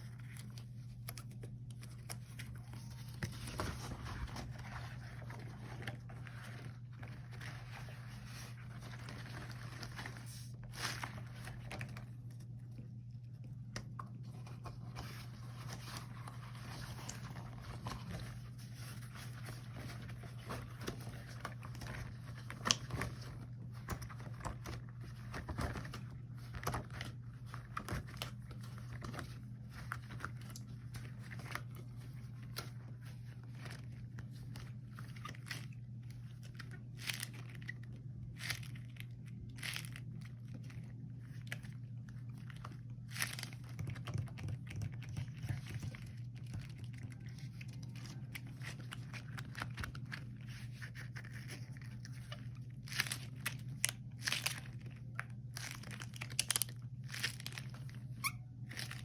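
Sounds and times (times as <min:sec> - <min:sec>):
rubber gloves crinkling: 0:00.0 - 0:59.0.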